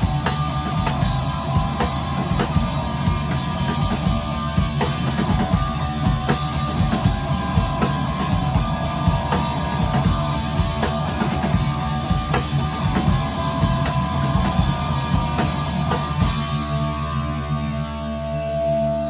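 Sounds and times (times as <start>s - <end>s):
drums keeping a steady beat: 0.0s - 19.0s
rock band playing: 0.0s - 19.0s.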